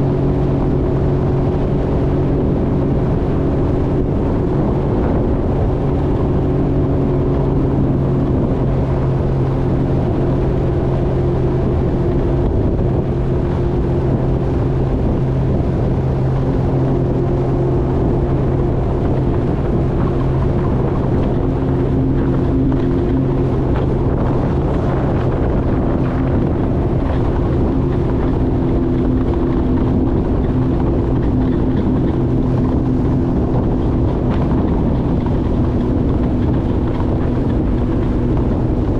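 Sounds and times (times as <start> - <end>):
jet ski engine running: 0.0 - 38.9
wind and water rushing: 0.0 - 38.9.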